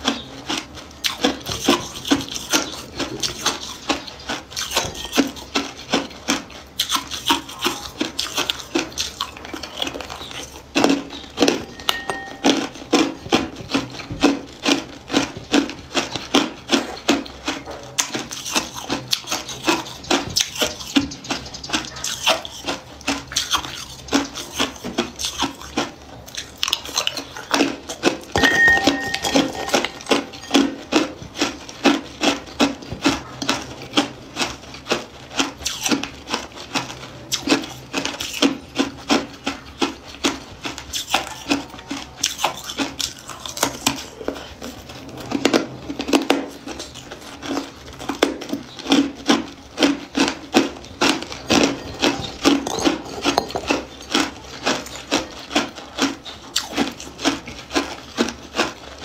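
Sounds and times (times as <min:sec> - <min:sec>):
ice crunching while chewed: 0:00.0 - 0:59.0.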